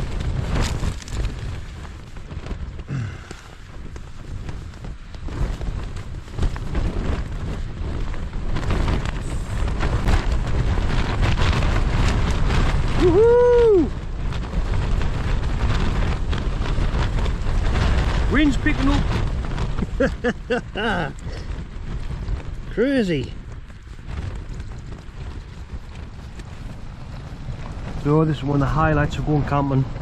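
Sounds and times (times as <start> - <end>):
gale wind gusting: 0.0 - 30.0
tent fabric flapping: 0.0 - 30.0.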